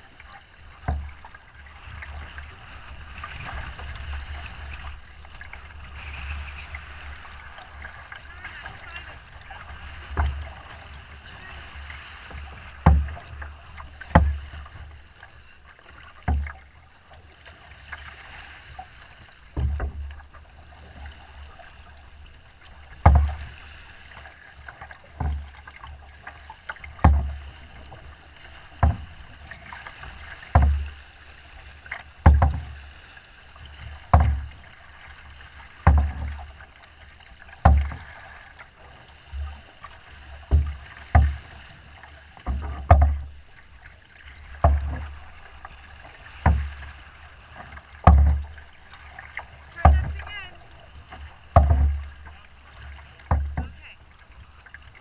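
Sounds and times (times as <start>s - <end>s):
boat hull thumping on waves: 0.0s - 55.0s
rush of wind and water: 0.0s - 55.0s.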